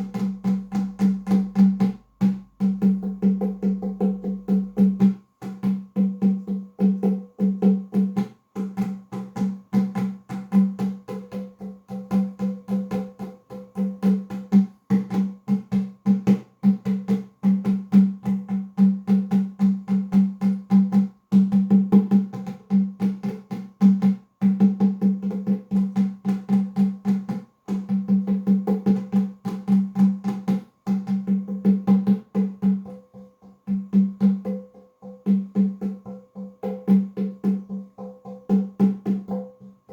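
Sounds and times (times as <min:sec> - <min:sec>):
hand-drum strikes: 0:00.0 - 0:39.9.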